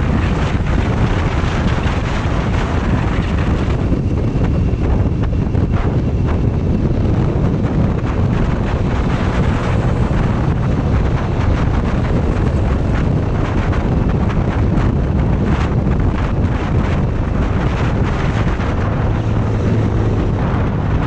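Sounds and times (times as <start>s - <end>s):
motorcycle ride rumble: 0.0s - 21.0s
wind buffeting microphone: 0.0s - 21.0s.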